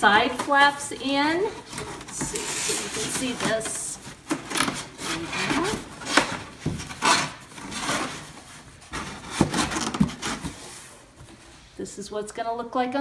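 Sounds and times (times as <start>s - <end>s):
cardboard scraping and rubbing: 0.0s - 11.7s.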